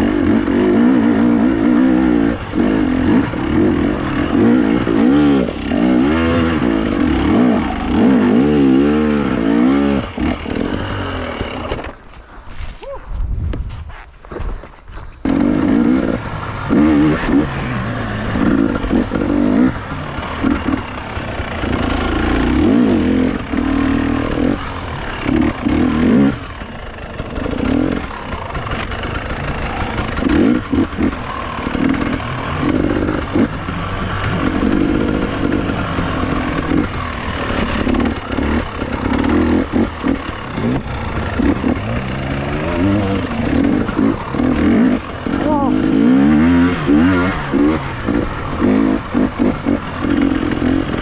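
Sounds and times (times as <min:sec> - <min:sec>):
motorcycle engine revving: 0:00.0 - 0:12.6, 0:14.6 - 0:51.0.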